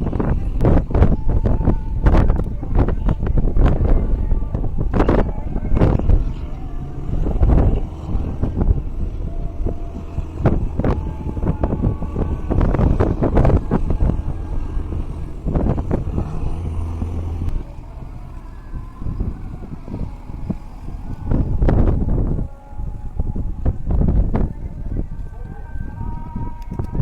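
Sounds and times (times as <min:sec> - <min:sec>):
tugboat engine rumbling: 0:00.0 - 0:27.0
wind buffeting microphone: 0:00.0 - 0:27.0.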